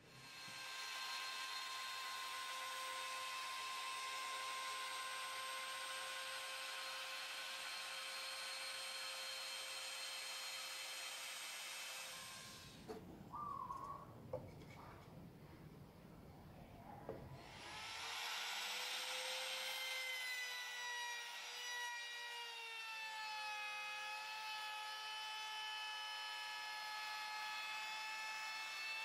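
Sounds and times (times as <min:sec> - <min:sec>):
trim router whining: 0:00.0 - 0:12.9, 0:17.4 - 0:29.0.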